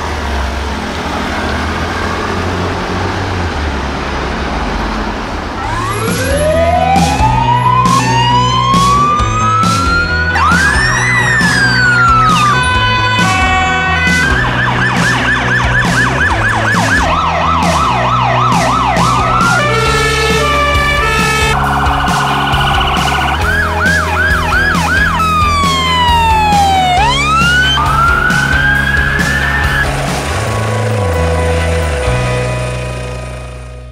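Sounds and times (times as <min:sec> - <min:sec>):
emergency vehicle sirens: 0:00.0 - 0:33.9
music with bass beat: 0:05.6 - 0:33.6.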